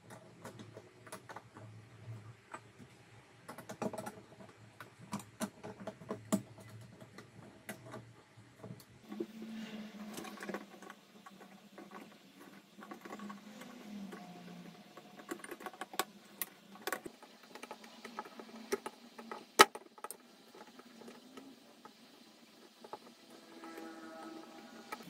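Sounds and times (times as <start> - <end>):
metal parts clicking and scraping: 3.4 - 25.0.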